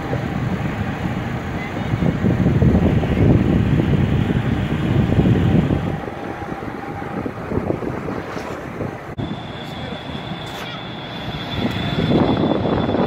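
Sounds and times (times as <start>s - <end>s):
jet engines running loud: 0.0s - 13.0s
wind buffeting microphone: 0.0s - 13.0s.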